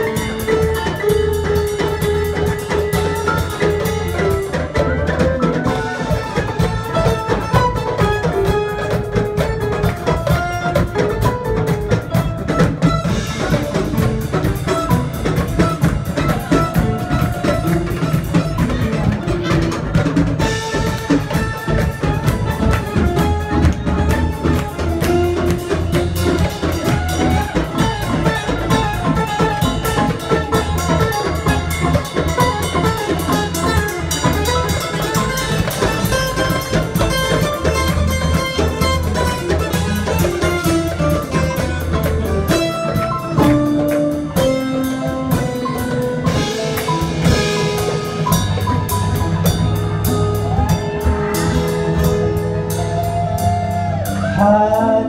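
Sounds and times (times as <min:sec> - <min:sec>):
drum kit: 0:00.0 - 0:55.0
hand drum: 0:00.0 - 0:55.0.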